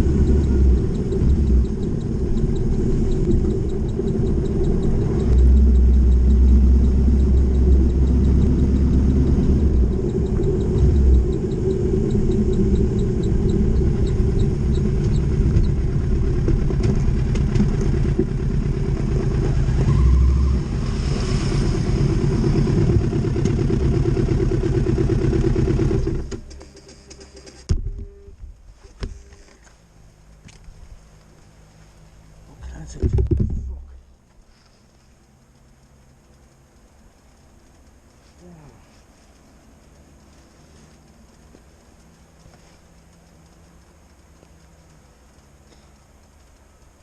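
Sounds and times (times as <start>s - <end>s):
motorcycle engine running: 0.0s - 28.0s, 33.3s - 47.0s.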